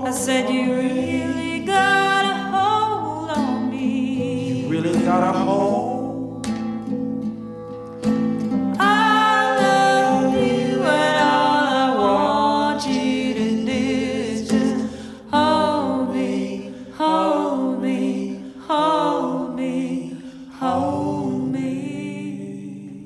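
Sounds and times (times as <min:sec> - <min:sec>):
person singing slow song: 0:00.0 - 0:06.9, 0:08.7 - 0:23.0.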